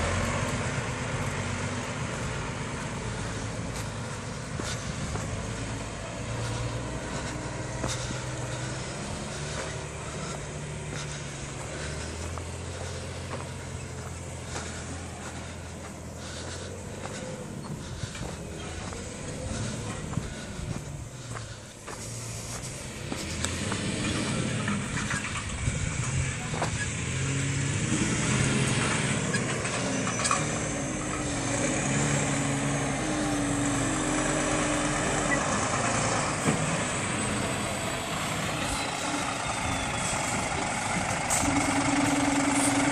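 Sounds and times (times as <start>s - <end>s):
diesel truck engine: 0.0s - 42.9s.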